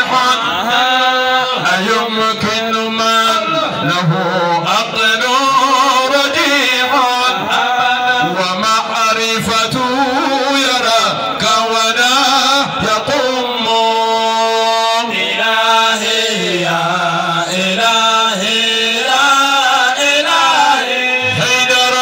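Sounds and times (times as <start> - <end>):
person chanting religious verse: 0.0 - 22.0.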